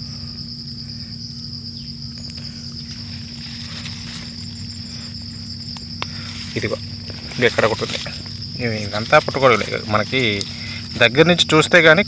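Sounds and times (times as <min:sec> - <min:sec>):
crickets trilling: 0:00.0 - 0:12.0
low steady hum: 0:00.0 - 0:12.0.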